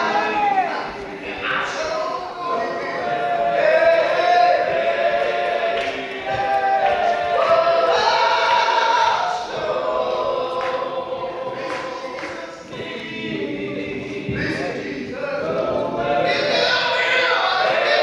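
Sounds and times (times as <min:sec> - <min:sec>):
vocal group singing in harmony: 0:00.0 - 0:18.0.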